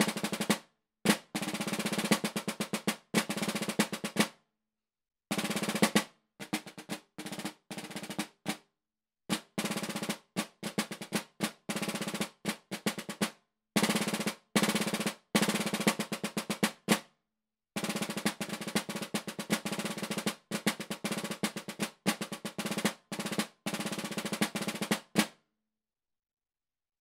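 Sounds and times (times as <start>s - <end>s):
snare drum rolls: 0.0s - 4.3s, 5.3s - 8.6s, 9.3s - 17.0s, 17.8s - 25.4s.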